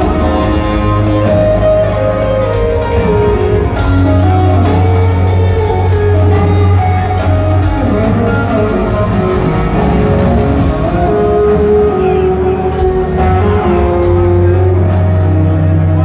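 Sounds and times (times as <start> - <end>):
electric guitar lead melody: 0.0 - 16.0
held bass notes: 0.0 - 16.0.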